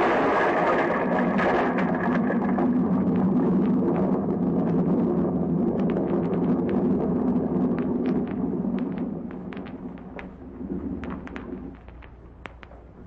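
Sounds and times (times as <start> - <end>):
crackles: 0.0 - 13.0.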